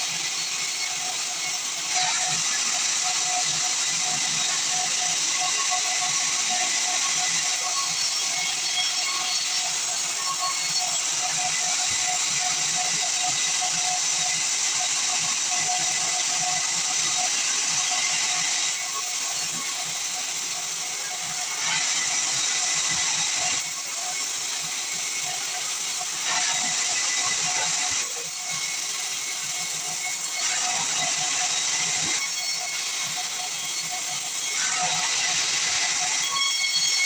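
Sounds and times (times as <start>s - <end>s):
band saw cutting wood: 0.0s - 37.0s.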